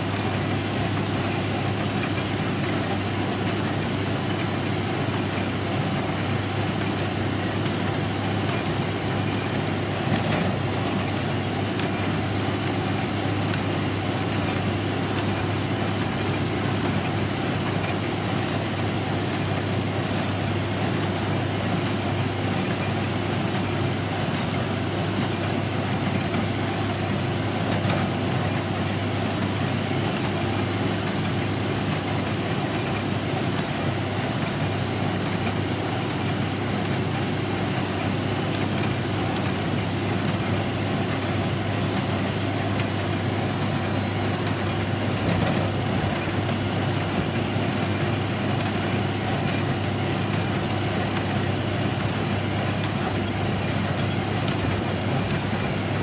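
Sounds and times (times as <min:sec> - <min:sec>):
baler baling hay: 0:00.0 - 0:56.0
tractor running steadily: 0:00.0 - 0:56.0.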